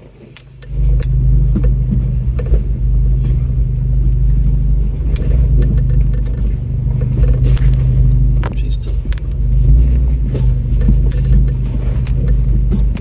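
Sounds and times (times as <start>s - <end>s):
truck engine rumbling: 0.0s - 13.0s
light clicks and creaks: 0.3s - 13.0s.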